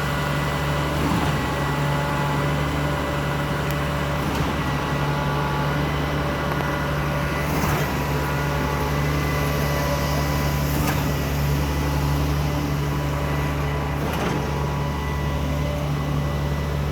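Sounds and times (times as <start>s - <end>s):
engine drone: 0.0s - 16.9s.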